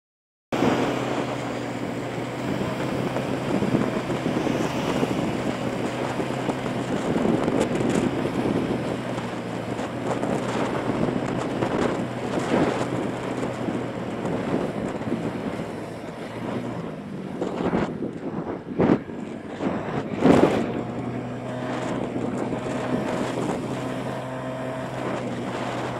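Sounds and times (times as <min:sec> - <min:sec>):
wind buffeting microphone: 0:00.6 - 0:25.9.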